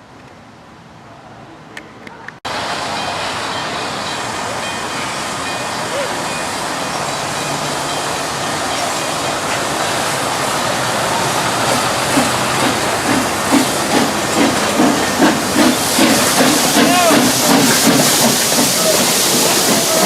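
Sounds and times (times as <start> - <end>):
steam hissing: 2.5 - 20.0
steam locomotive chuffing beat: 2.8 - 20.0.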